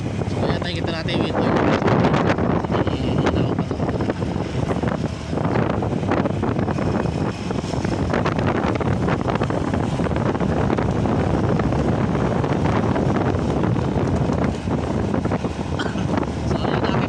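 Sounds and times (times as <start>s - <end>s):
motorcycle engine: 0.0s - 17.0s
road noise: 0.0s - 17.0s
wind buffeting microphone: 0.0s - 17.0s.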